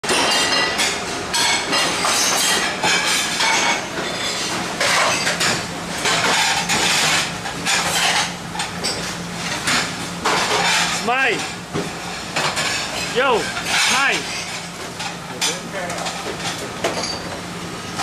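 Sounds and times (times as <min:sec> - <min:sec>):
dishes and cutlery clattering: 0:00.0 - 0:11.5, 0:12.4 - 0:17.4
machinery hum: 0:00.1 - 0:18.0.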